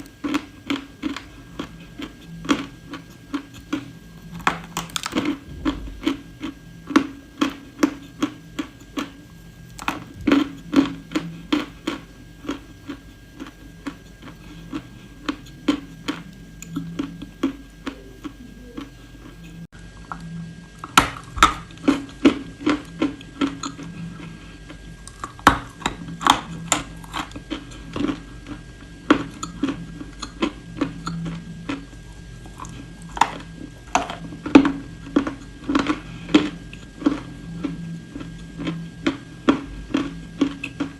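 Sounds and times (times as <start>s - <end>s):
crunching and chewing: 0.0s - 40.9s.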